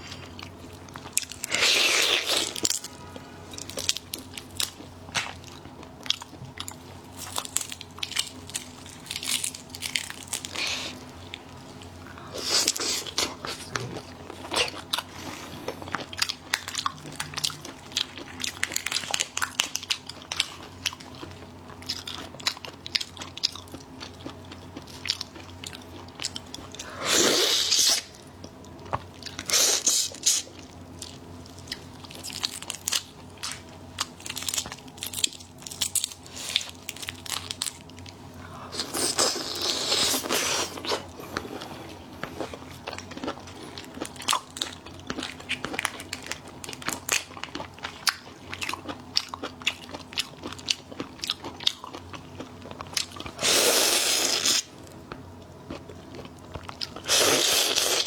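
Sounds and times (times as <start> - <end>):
crunchy bites and chewing: 0.0 - 11.5, 12.3 - 58.0.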